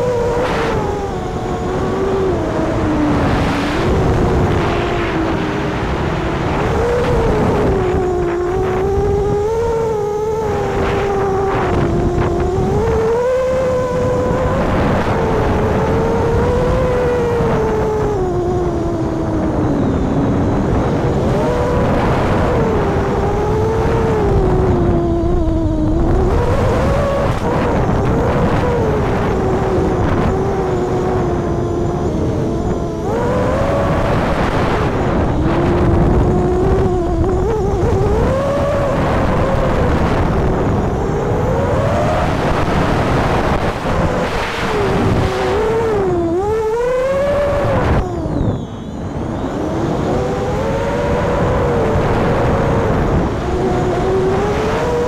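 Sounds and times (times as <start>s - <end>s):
drone motors whining: 0.0s - 55.0s
wind rumble on microphone: 0.0s - 55.0s.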